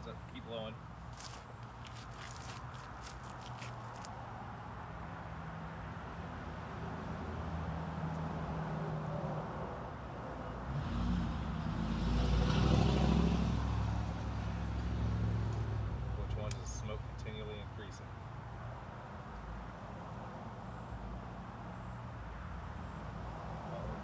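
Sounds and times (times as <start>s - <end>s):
vehicle engine hum passing: 0.0s - 24.0s.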